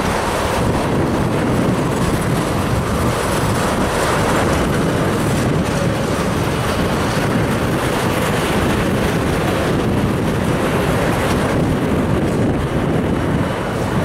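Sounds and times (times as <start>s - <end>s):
tank cars rolling on rails: 0.0s - 14.0s.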